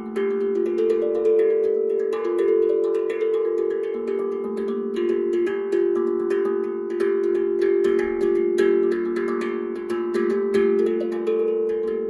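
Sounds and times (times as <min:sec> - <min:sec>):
steel tongue drum notes: 0:00.0 - 0:12.0.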